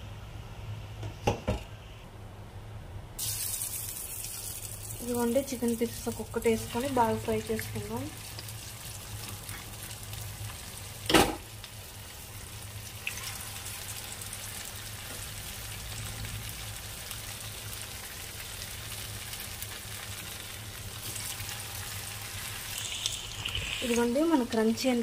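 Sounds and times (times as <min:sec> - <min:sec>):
chicken deep-frying in oil: 0:03.2 - 0:25.0.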